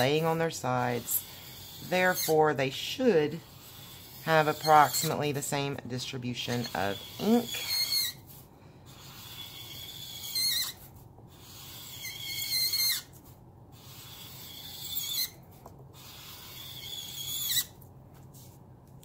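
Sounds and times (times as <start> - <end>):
marker squeaking on paper: 0.0 - 5.5, 6.4 - 17.8.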